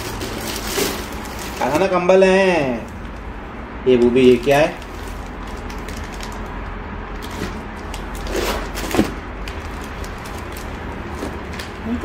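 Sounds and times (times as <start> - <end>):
plastic packaging crinkling: 0.0 - 3.4, 4.0 - 12.0
steady low hum: 0.0 - 12.0.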